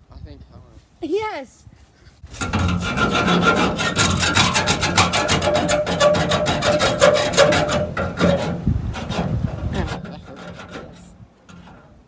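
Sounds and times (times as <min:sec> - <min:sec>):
hand saw rasping on metal: 0:02.2 - 0:12.0.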